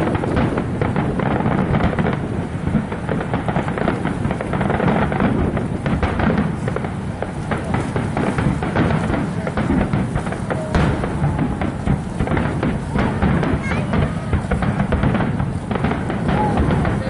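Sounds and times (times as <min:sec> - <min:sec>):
fireworks barrage: 0:00.0 - 0:17.0.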